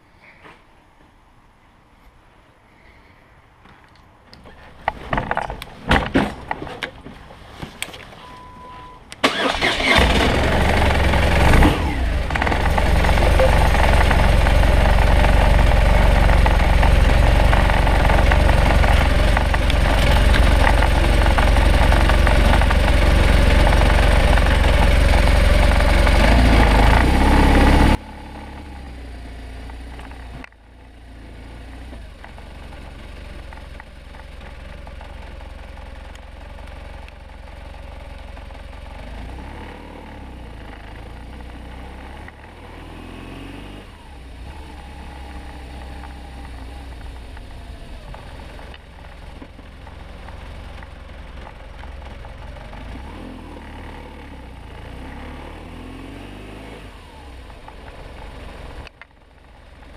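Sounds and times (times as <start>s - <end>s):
motorcycle engine running: 9.8s - 42.8s, 43.9s - 59.9s.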